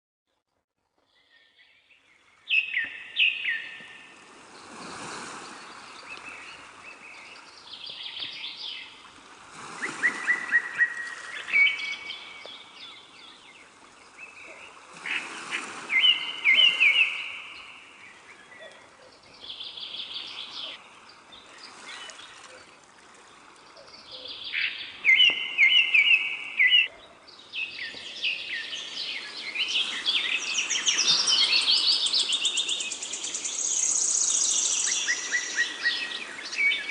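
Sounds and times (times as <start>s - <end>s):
birds chirping and trilling: 1.2s - 9.0s, 9.8s - 22.7s, 23.3s - 36.9s.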